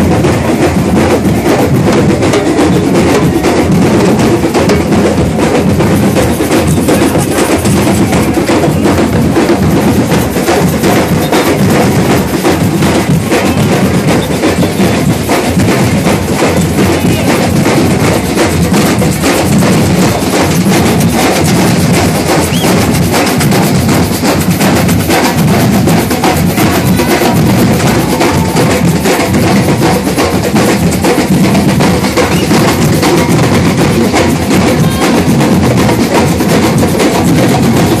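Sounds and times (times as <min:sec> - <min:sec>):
drums playing loud rhythm: 0:00.0 - 0:38.0.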